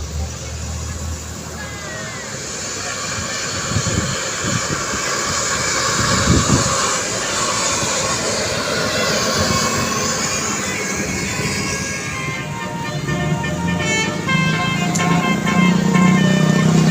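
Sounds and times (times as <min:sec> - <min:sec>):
heavy vehicle passing: 0:00.0 - 0:16.9.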